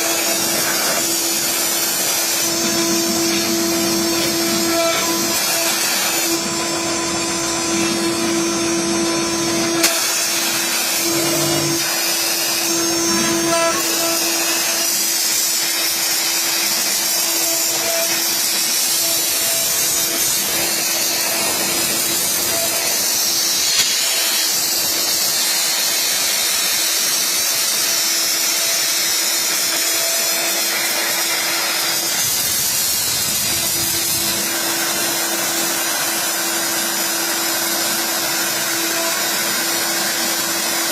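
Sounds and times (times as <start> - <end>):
router spindle cutting with hiss: 0.0 - 40.9.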